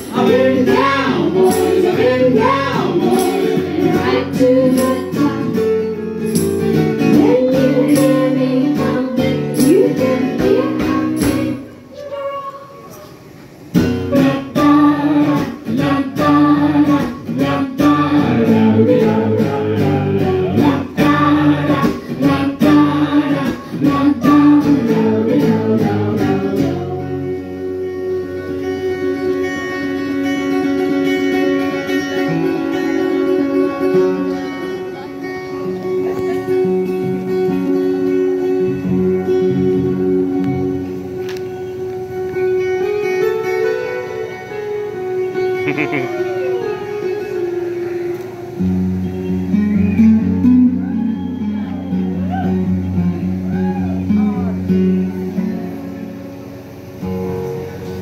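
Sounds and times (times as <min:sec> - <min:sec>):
acoustic guitar strummed hard: 0:00.0 - 0:11.7, 0:13.6 - 0:58.0.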